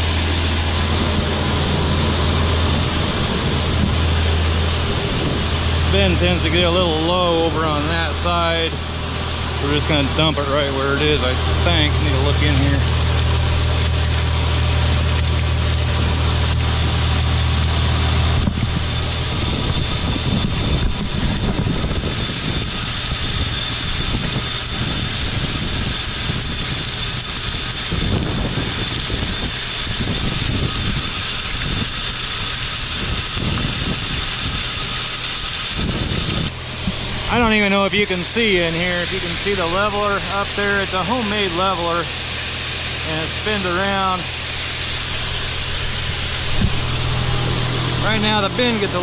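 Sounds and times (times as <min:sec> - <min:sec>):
grain auger machinery running: 0:00.0 - 0:49.0
tractor engine hum: 0:00.0 - 0:49.0.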